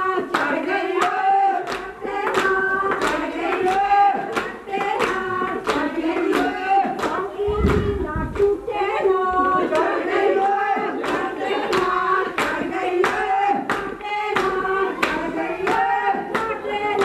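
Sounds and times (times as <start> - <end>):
hand claps: 0.0 - 8.6, 9.7 - 17.0
women singing together: 0.0 - 17.0.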